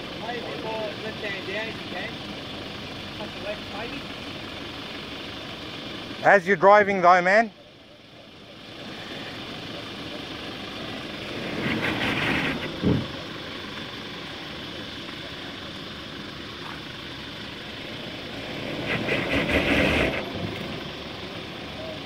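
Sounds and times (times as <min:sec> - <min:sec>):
truck engine under load: 0:00.0 - 0:22.0.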